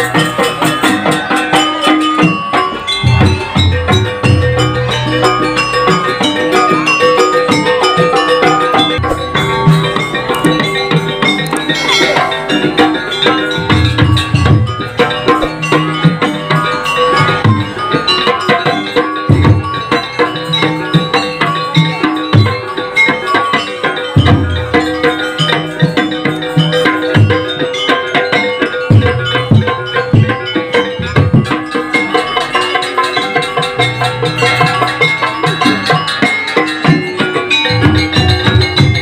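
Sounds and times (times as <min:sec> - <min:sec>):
bronze metallophones ringing: 0:00.0 - 0:39.0
hand drums: 0:00.0 - 0:39.0.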